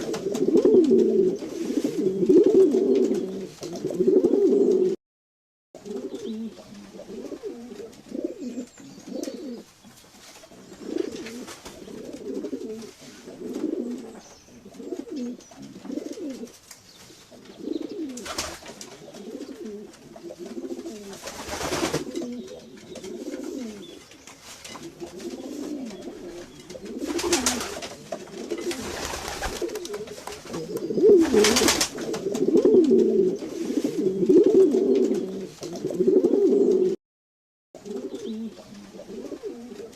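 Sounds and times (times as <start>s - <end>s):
pigeons cooing: 0.0s - 5.0s, 5.8s - 9.7s, 10.5s - 37.0s, 37.8s - 39.9s.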